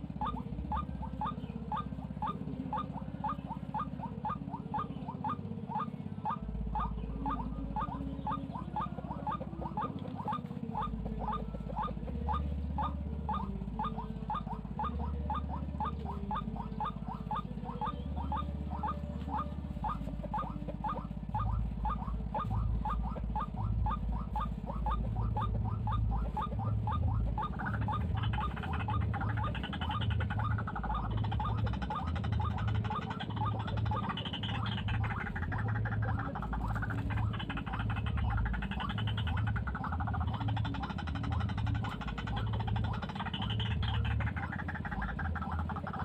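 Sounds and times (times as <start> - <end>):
bird calling sharp notes: 0.0 - 46.0.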